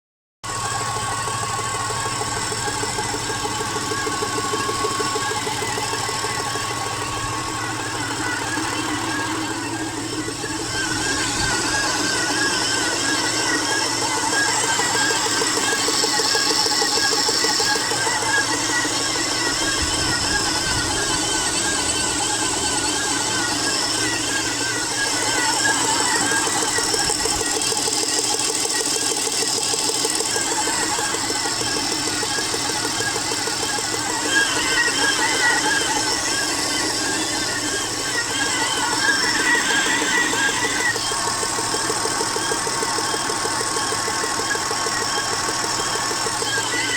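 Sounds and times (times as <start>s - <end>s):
engine idling with knock: 0.5s - 46.9s.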